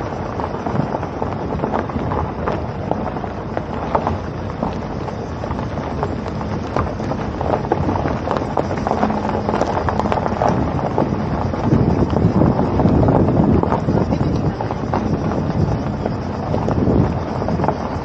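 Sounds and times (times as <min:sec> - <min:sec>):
road noise: 0:00.0 - 0:18.0
wind rushing over microphone: 0:00.0 - 0:18.0.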